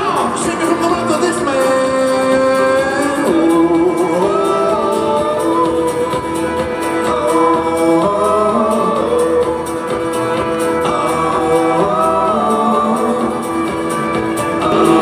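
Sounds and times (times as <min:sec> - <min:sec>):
live rock band playing: 0:00.0 - 0:15.0
man singing long notes: 0:00.0 - 0:15.0.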